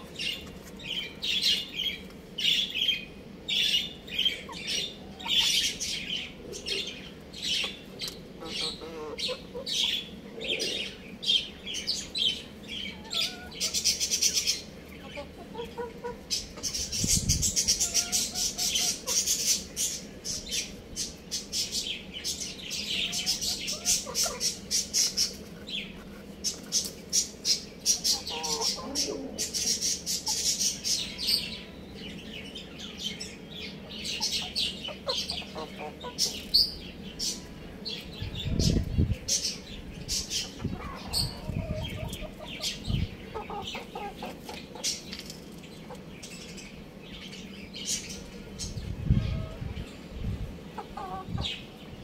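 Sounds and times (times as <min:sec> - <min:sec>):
birds chirping rapidly: 0:00.0 - 0:52.0.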